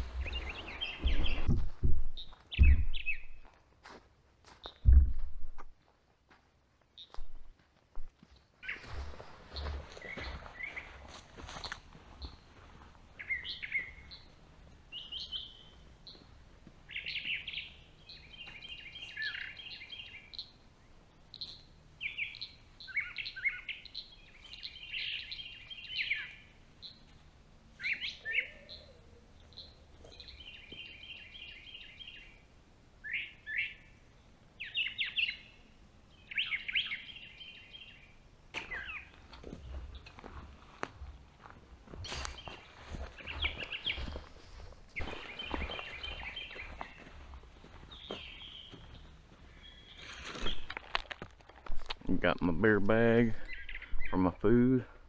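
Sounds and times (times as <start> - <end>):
songbirds chirping and trilling: 0.0 - 4.9, 6.8 - 7.3, 8.2 - 55.0.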